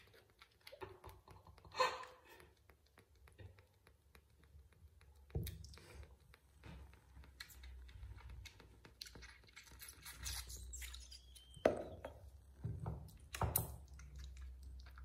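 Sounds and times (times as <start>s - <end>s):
kitten suckling: 0.0s - 15.0s.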